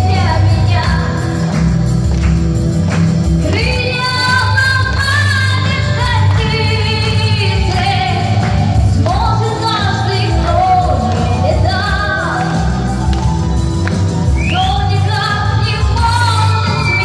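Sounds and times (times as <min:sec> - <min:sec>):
woman singing pop song: 0:00.0 - 0:02.2, 0:03.3 - 0:17.0
backing track: 0:00.0 - 0:17.0.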